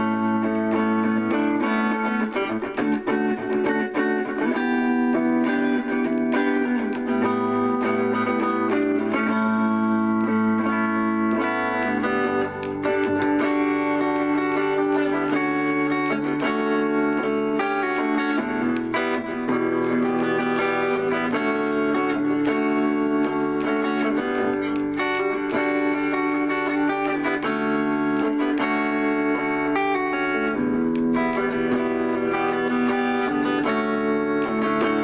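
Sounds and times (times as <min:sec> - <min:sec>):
clean electric guitar chords: 0:00.0 - 0:35.0.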